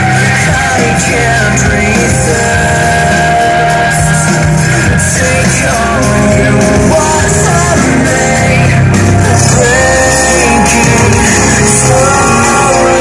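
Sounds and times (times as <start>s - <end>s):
song with band over loudspeakers: 0.0s - 13.0s.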